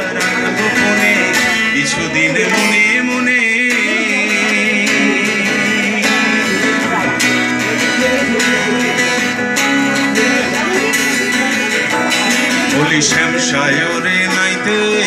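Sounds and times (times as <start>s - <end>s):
acoustic guitar strumming: 0.0s - 15.0s
plucked string melody: 0.0s - 15.0s.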